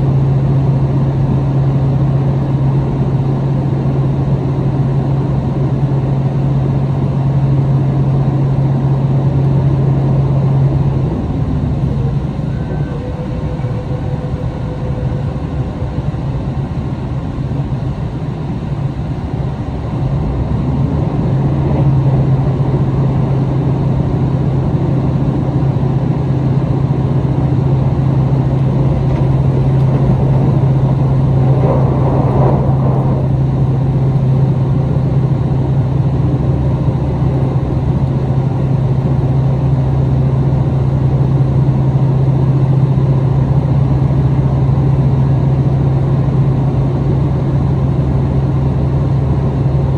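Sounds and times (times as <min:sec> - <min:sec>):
diesel engine drone: 0:00.0 - 0:49.9
train rolling noise: 0:00.0 - 0:49.9.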